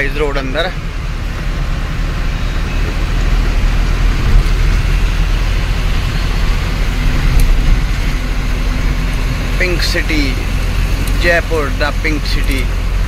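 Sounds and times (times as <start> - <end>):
road noise: 0.0 - 13.0
truck diesel engine running: 0.0 - 13.0.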